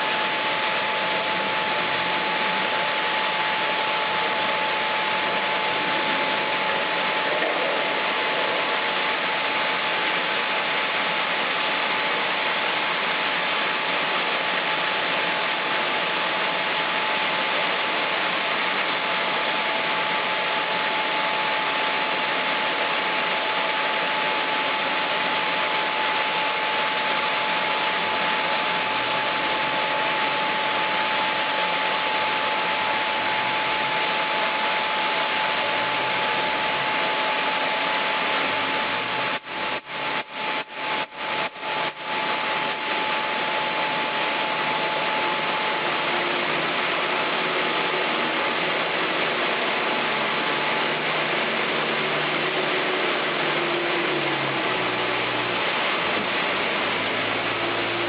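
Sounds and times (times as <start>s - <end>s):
high mechanical hum: 0.0s - 58.0s
sawmill machinery running: 0.0s - 58.0s.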